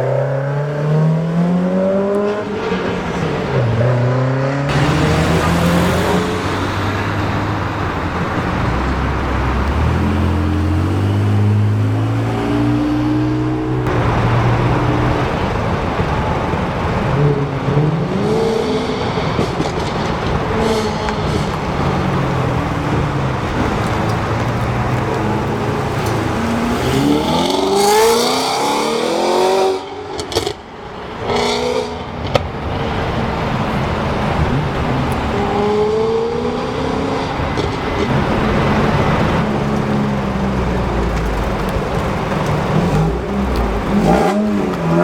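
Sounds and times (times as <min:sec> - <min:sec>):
car accelerating: 0:00.0 - 0:45.0
car revving up: 0:00.0 - 0:45.0
traffic noise: 0:00.0 - 0:45.0
sports car engines running: 0:04.5 - 0:45.0.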